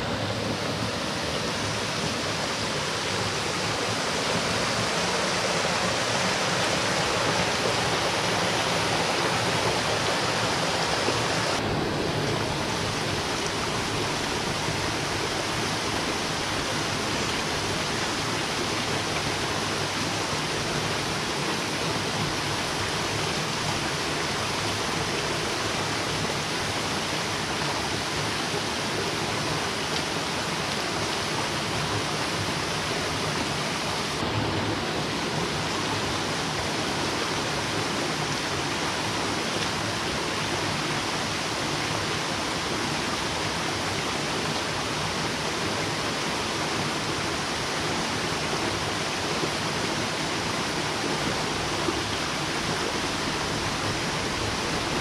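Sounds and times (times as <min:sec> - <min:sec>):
water rushing over stones: 0:00.0 - 0:55.0.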